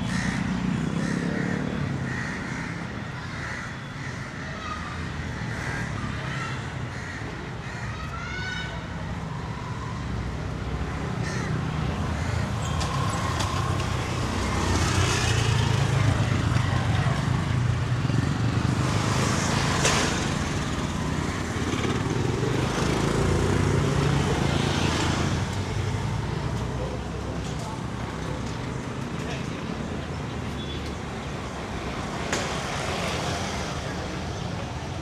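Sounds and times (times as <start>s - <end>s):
vehicle engines passing: 0.0s - 35.0s.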